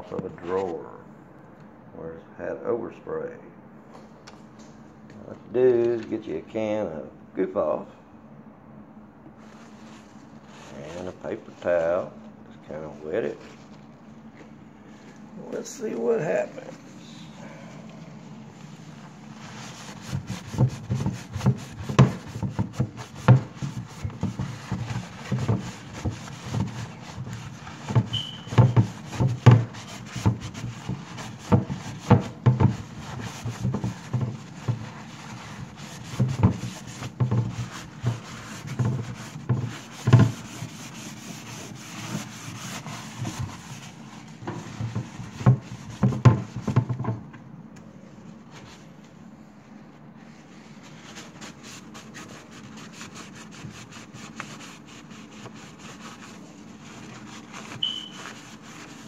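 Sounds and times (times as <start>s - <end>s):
paper towel rubbing on wood: 0.0s - 0.8s, 9.4s - 14.0s, 14.9s - 47.2s, 48.3s - 59.0s.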